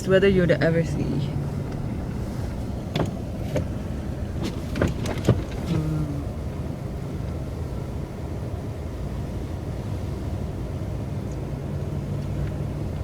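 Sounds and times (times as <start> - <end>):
car engines and tyres in snow: 0.0 - 13.0.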